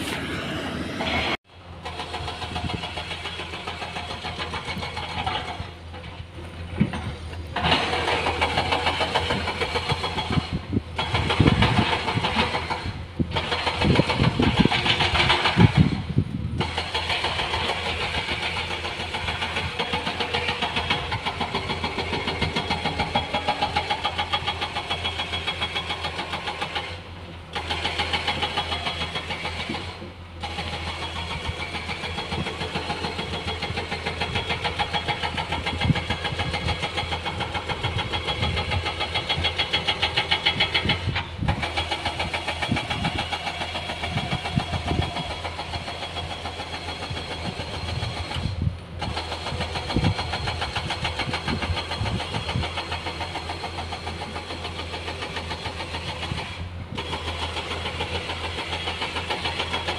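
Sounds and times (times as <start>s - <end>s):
diesel engine of heavy machinery: 0.0s - 59.9s.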